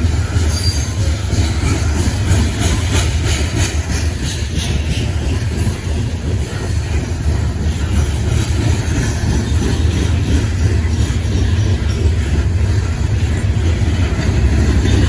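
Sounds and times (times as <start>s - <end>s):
freight train rumble: 0.0s - 15.0s
wheels clicking over rail joints: 0.0s - 15.0s.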